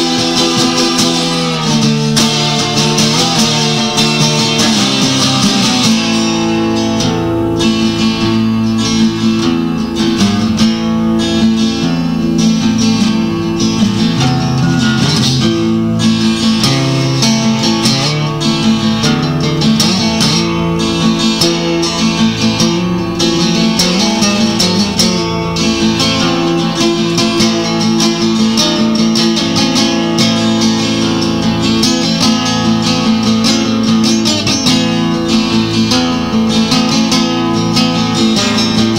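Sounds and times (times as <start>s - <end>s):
strummed acoustic guitar music: 0.0s - 38.9s.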